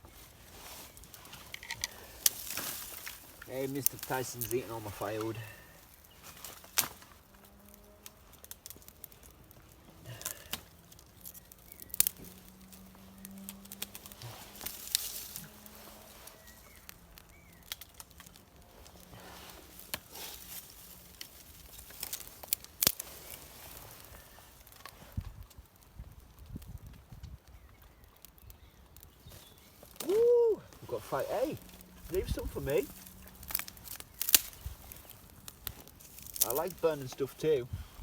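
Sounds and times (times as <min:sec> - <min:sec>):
fire steel scraping: 0:00.0 - 0:25.5, 0:29.3 - 0:38.0
faint crackling and rustling: 0:00.0 - 0:38.0.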